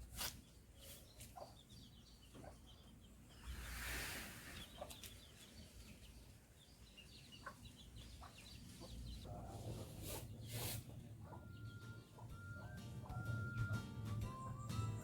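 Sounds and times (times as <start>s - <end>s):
small birds chirping: 0.0s - 15.0s
chickens clucking: 0.8s - 15.0s.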